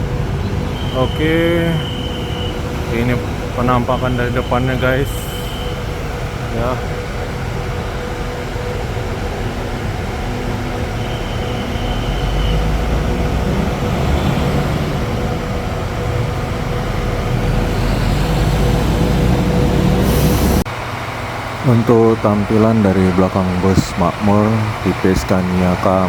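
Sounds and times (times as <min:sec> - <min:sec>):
diesel bus engine idling: 0:00.0 - 0:26.0.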